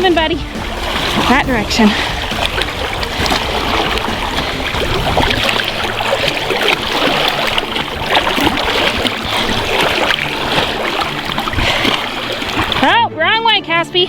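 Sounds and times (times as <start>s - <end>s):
rush of moving water: 0.0s - 14.0s
splashing through flood water: 0.0s - 14.0s.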